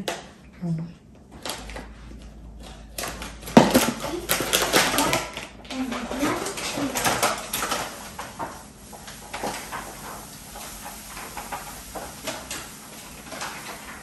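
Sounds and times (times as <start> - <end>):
utensils and bowls clinking: 2.7 - 14.0.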